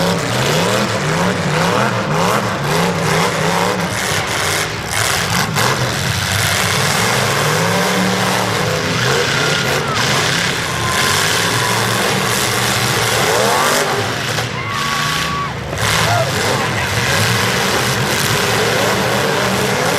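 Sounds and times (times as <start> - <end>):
car engines revving: 0.0 - 19.9.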